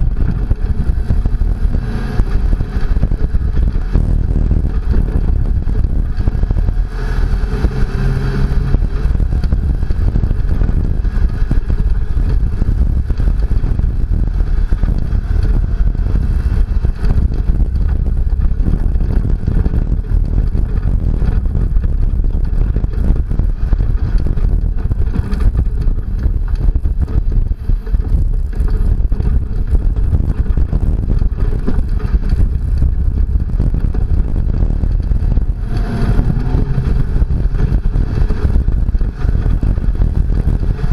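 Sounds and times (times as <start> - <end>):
truck driving on rough dirt road: 0.0 - 40.9.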